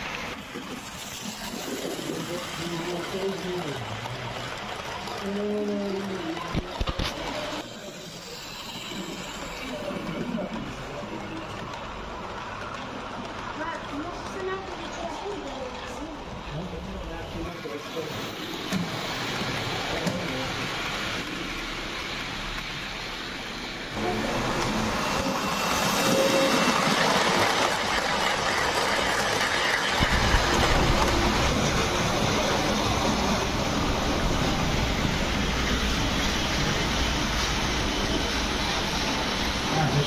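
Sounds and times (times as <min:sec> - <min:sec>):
model train rolling on track: 0:00.0 - 0:40.0.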